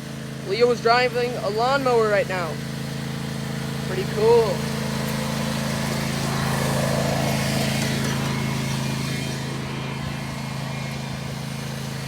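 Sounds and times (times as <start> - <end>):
riding lawnmower engine running: 0.0 - 12.0.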